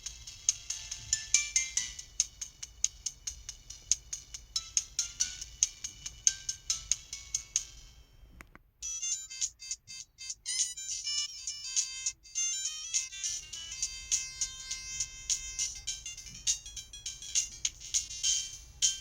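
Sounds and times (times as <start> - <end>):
synthesized melody with clicking beat: 0.0 - 8.0, 8.8 - 19.0
phone ringtone: 0.0 - 8.2, 8.8 - 19.0.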